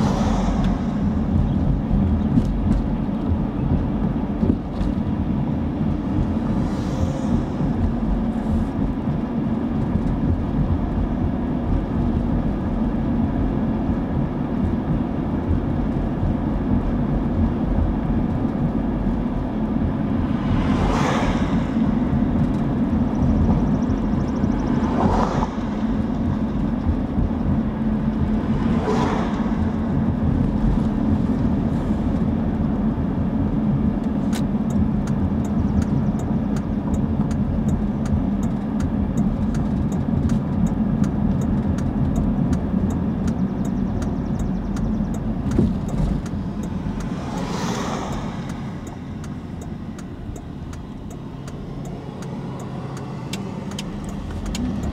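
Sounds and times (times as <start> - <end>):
car road and engine rumble: 0.0 - 54.9
passing traffic whooshes: 0.0 - 54.9.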